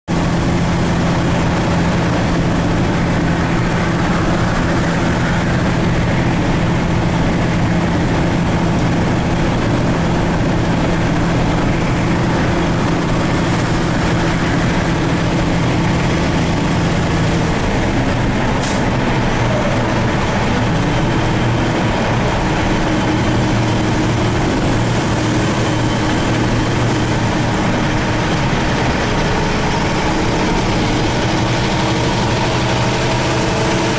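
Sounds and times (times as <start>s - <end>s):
truck engine and road noise in cab: 0.1s - 33.9s.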